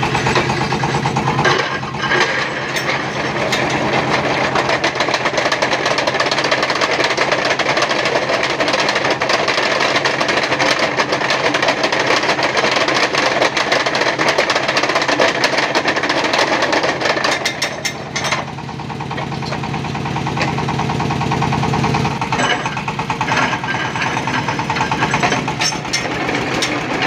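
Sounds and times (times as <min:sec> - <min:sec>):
rapid metallic rattle: 0:00.0 - 0:27.0.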